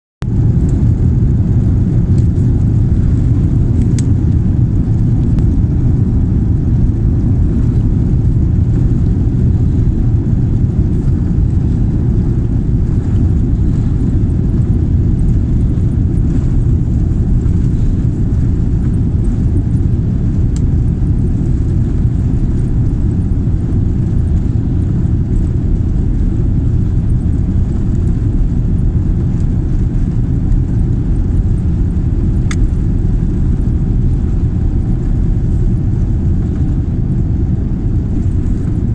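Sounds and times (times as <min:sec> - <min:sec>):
jet engine rumble: 0:00.2 - 0:38.9
wheels rolling on runway: 0:00.3 - 0:38.9.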